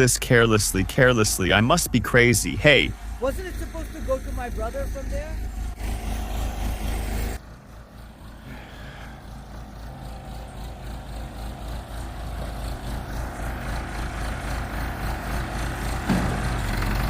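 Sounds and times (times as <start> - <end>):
backhoe engine running: 0.0 - 17.0.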